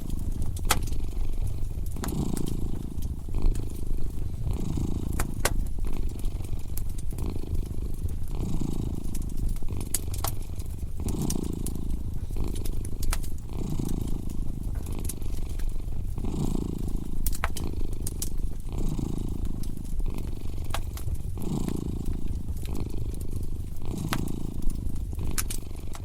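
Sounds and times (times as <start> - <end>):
cat purring: 0.0 - 26.0
wood fire crackling and popping: 0.0 - 26.0.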